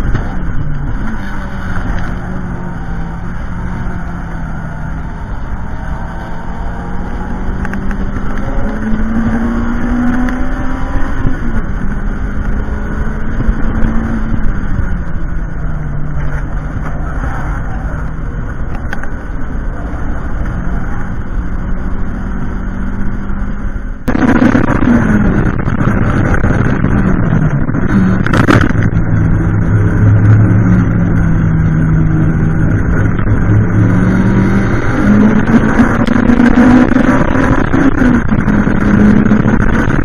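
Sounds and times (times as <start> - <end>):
wind noise: 0.0 - 22.4, 23.2 - 40.0
car engine running hard: 0.0 - 40.0.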